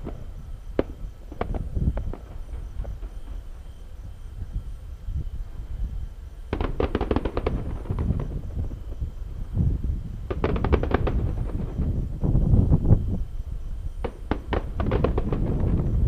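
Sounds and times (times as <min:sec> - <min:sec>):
fireworks crackling: 0:00.0 - 0:05.0, 0:06.1 - 0:16.0.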